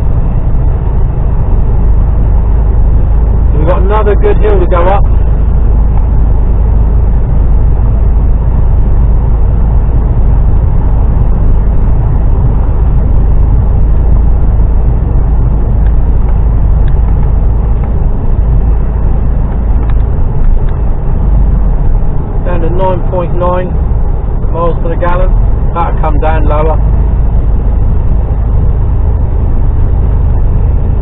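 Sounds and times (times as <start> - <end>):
lorry diesel engine: 0.0 - 31.0
road noise: 0.0 - 31.0.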